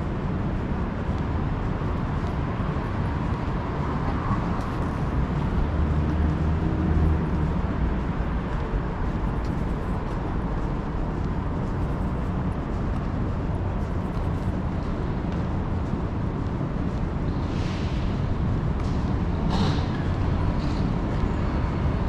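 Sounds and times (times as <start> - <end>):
passing vehicles rumble: 0.0 - 22.0.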